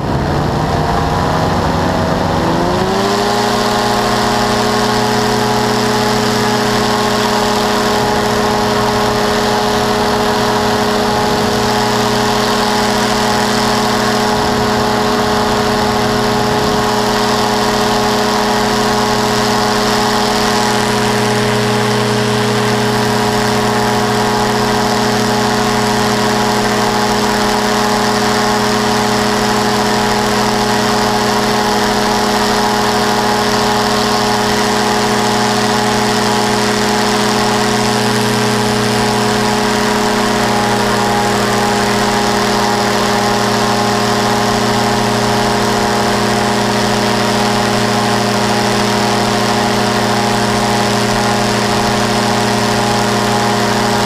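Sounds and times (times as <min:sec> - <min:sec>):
engine and propeller humming: 0:00.0 - 0:54.0.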